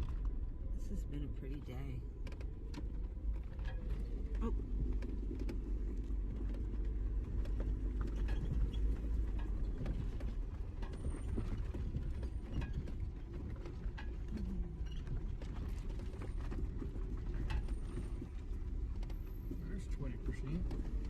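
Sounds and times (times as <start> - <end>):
off-road vehicle low rumble: 0.0 - 21.0
suspension clicks knocks and creaks: 2.1 - 21.0.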